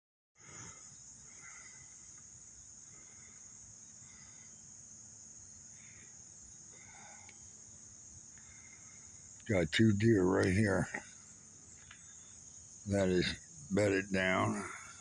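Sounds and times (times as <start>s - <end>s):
high-pitched insect chorus: 0.4s - 15.0s.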